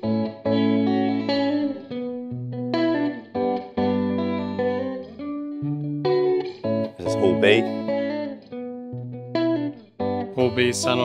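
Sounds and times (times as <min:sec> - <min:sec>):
clean electric guitar chords: 0:00.0 - 0:11.0.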